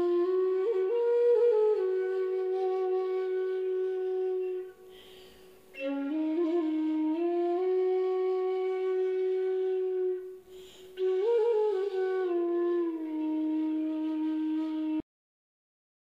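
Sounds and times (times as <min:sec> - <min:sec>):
solo flute playing: 0:00.0 - 0:15.0.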